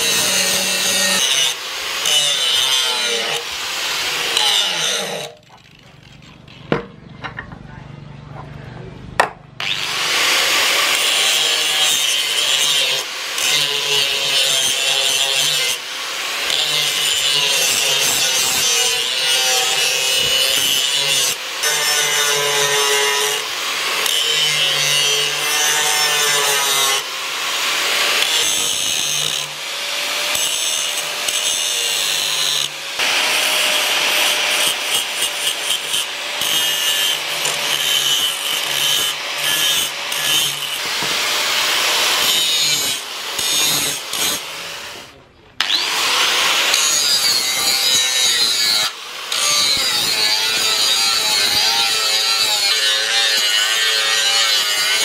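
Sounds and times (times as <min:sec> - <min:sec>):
angle grinder grinding steel: 0:00.0 - 0:07.4, 0:09.6 - 0:55.0.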